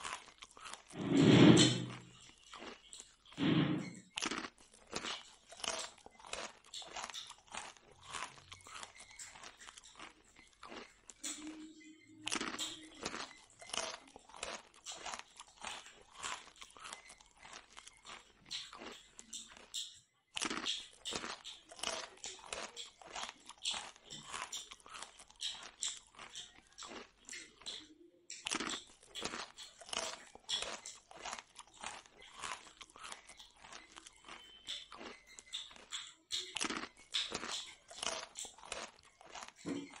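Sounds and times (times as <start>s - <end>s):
chewing and crunching fried food: 0.0s - 40.0s.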